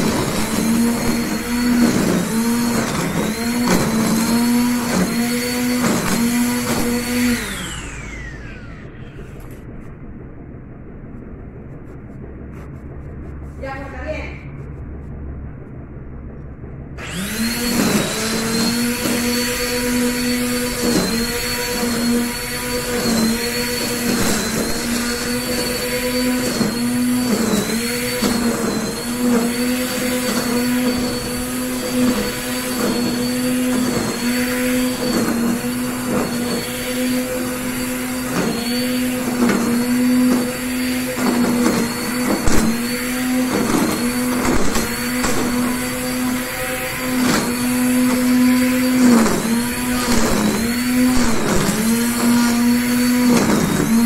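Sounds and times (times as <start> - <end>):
electric string trimmer whining: 0.0 - 9.7, 17.0 - 54.0.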